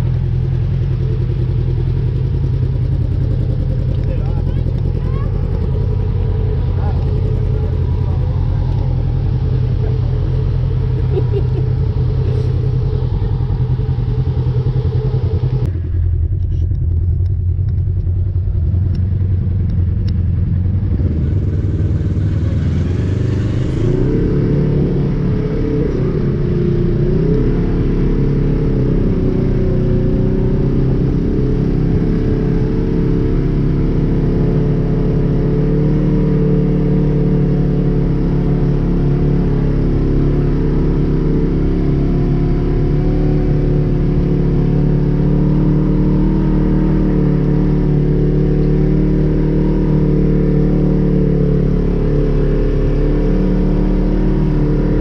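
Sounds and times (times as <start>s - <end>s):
utv engine rumbling: 0.0s - 55.0s.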